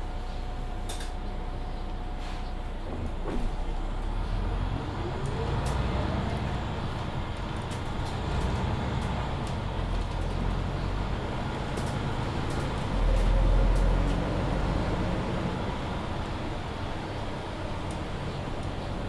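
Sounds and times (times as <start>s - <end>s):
bus drivetrain and road rumble: 0.0s - 19.0s.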